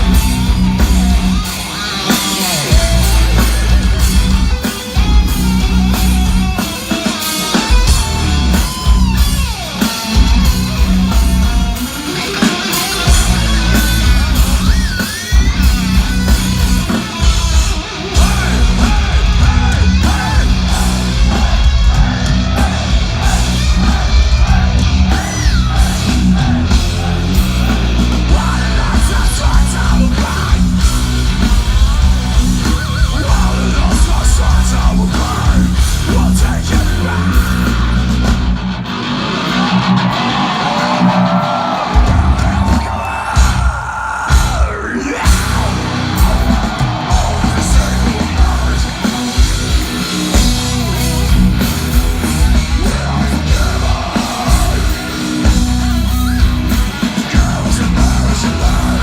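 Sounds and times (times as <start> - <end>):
heavy metal band playing live: 0.0 - 59.0
shouted vocals: 7.1 - 38.2, 39.2 - 59.0.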